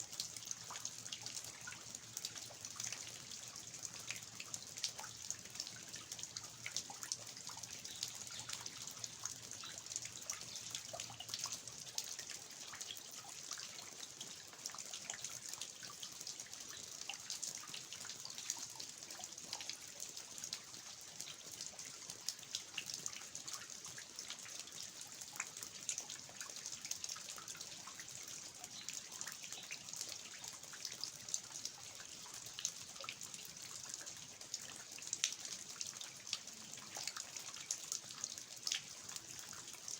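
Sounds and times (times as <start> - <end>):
water dripping from eaves: 0.0 - 39.9.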